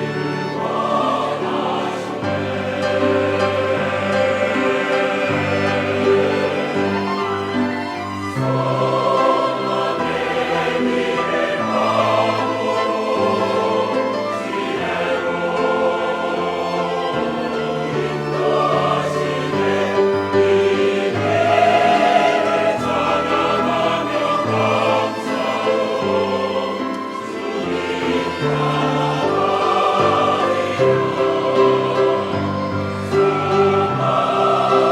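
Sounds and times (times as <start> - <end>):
church choir singing: 0.0 - 34.9.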